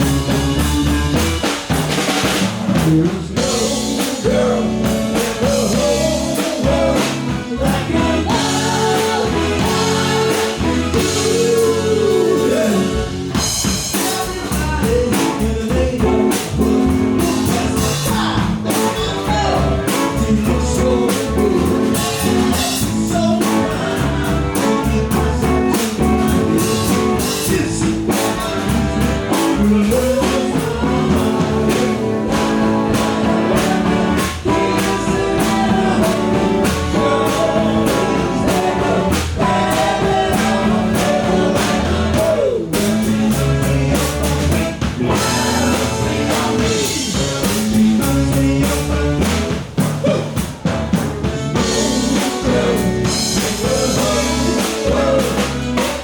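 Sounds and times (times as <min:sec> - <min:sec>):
live band playing soul-rock: 0:00.0 - 0:56.0.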